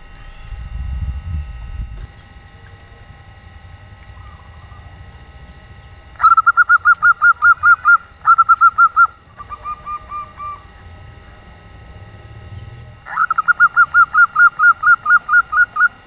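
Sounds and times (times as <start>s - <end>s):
dove calling in clipped notes: 2.0s - 16.0s.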